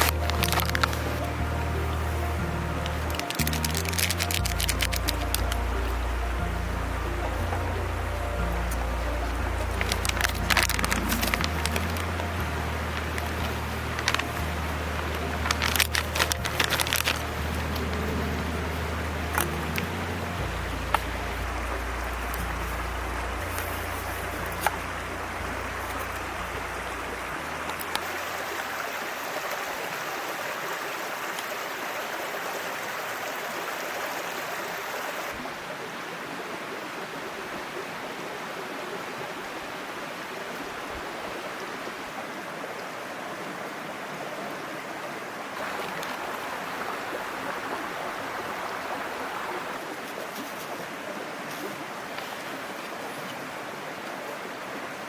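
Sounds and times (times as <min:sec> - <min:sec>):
stream babbling over rocks: 0:00.0 - 0:55.0.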